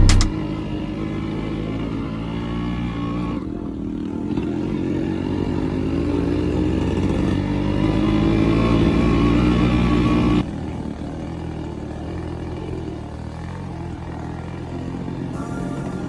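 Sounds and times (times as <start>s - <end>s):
vehicle engine under load: 0.0s - 15.4s.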